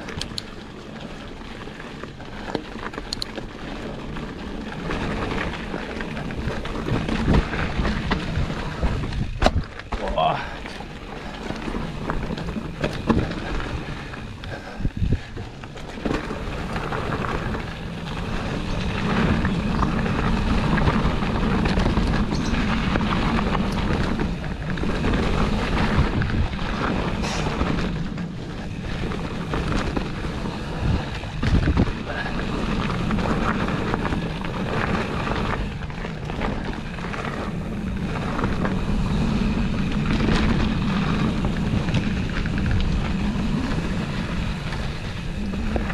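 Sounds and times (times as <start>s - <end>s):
bike tyre roar: 0.0s - 45.9s
wind buffeting microphone: 2.1s - 45.9s.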